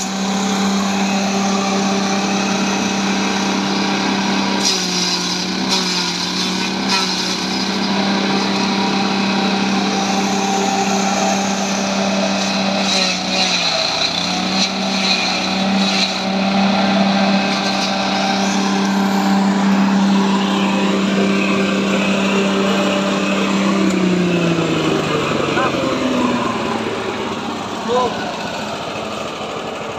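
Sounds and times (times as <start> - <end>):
grass chopper motor running: 0.0 - 29.9
rushing whir of cutter: 0.0 - 29.9.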